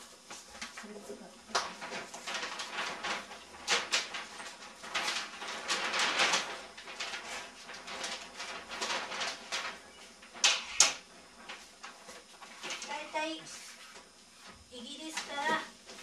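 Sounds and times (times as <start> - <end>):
paper map rustling: 0.0 - 16.0.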